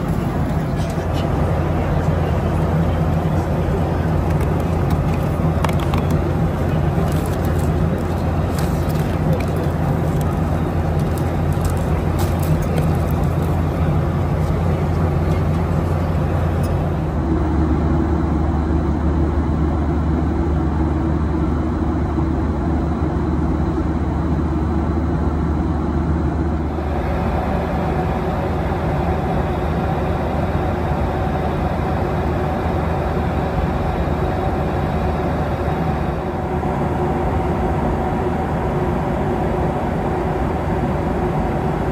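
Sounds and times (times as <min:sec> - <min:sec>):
vehicle drone from inside: 0:00.0 - 0:41.9.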